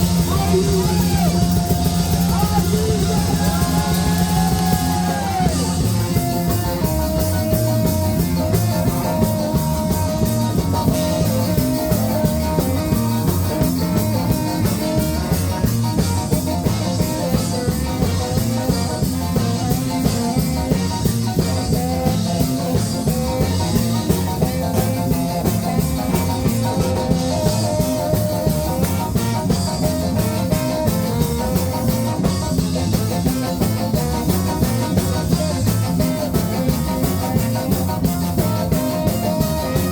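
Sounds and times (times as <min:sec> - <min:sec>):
ska band playing: 0:00.0 - 0:39.9.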